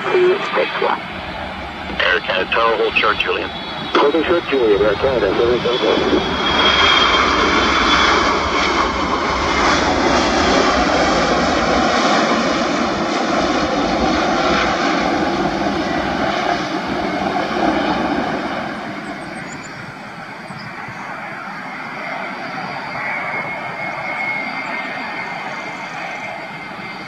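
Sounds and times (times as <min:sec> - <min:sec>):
high jet whine: 0:00.0 - 0:27.0
jet engines roaring: 0:00.0 - 0:27.0.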